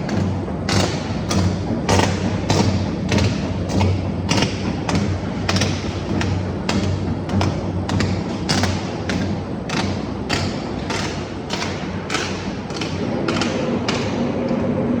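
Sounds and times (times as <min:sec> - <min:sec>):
welding machine thumps with hiss: 0:00.0 - 0:14.6
steady low hum: 0:00.0 - 0:15.0.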